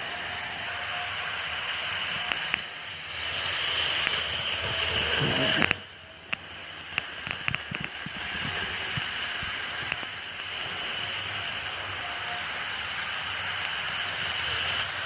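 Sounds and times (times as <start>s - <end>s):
model locomotive motor whine: 0.0s - 15.0s
wheels clicking over rails: 0.0s - 15.0s.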